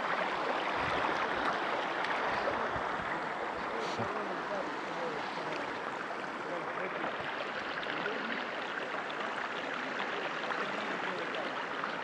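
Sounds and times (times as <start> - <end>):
stream babbling: 0.0 - 12.0.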